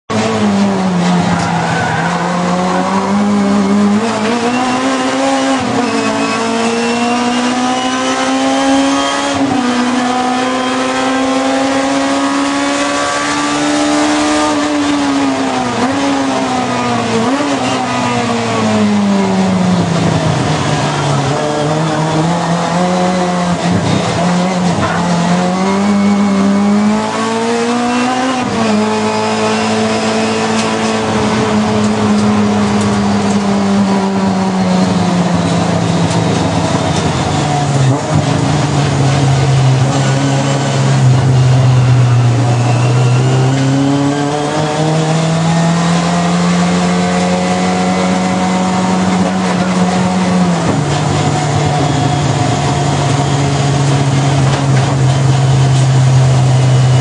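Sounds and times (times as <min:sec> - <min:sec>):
race car engine: 0:00.1 - 0:57.0.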